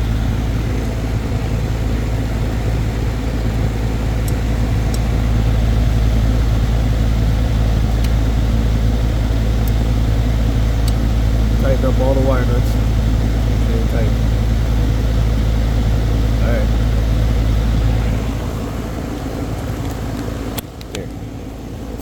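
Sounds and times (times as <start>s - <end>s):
compressor hum: 0.0s - 22.0s
condenser fan rushing: 0.0s - 22.0s.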